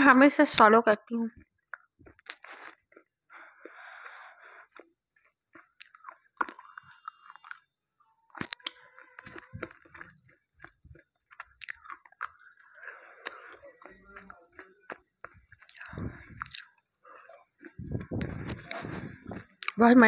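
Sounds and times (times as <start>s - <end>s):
sharp crunching snaps: 1.4s - 7.7s, 8.3s - 19.8s
gritty grinding chews: 1.7s - 7.7s, 8.3s - 19.8s.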